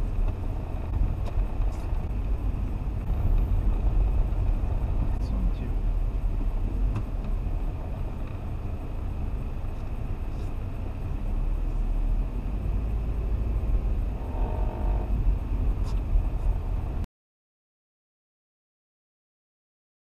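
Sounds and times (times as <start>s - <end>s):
car engine and road noise: 0.0s - 17.1s.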